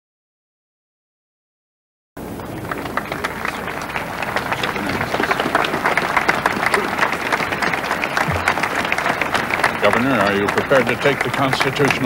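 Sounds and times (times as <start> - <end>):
crowd applauding: 2.2 - 12.0.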